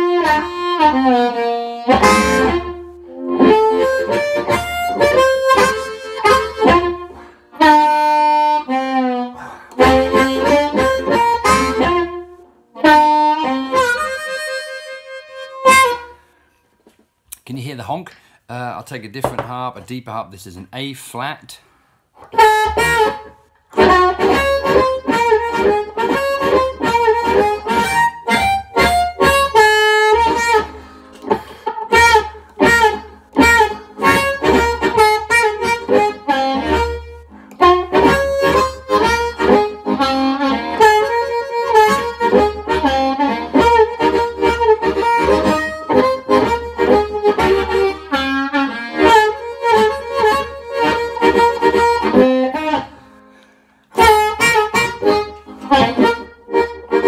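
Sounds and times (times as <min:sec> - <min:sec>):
amplified blues harmonica: 0:00.0 - 0:17.4, 0:18.1 - 0:57.0.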